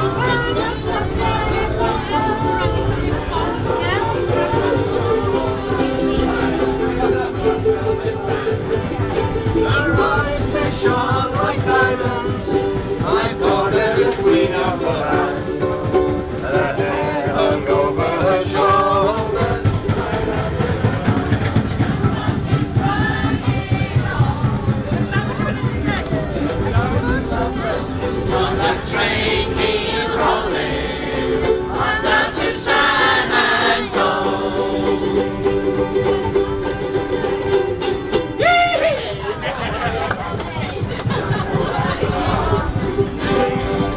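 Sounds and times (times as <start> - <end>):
people singing along: 0.0 - 36.6, 39.2 - 43.9
ukuleles strumming chords: 0.0 - 43.9.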